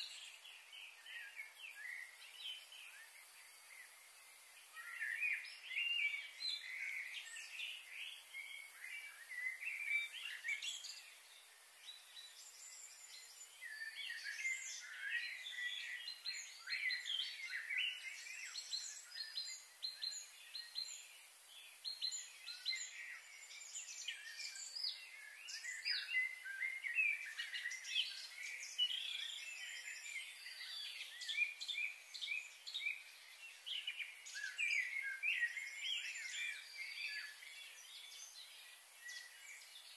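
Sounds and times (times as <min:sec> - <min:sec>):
faint high hiss: 0:00.0 - 0:39.9
small birds chirping: 0:00.0 - 0:39.9.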